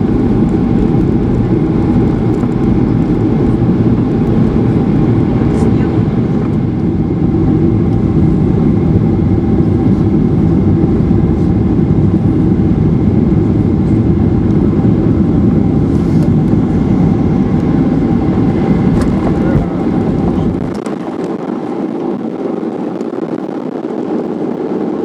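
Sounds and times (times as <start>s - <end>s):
airliner cabin engine rumble: 0.0s - 25.0s
steady whine: 0.0s - 25.0s.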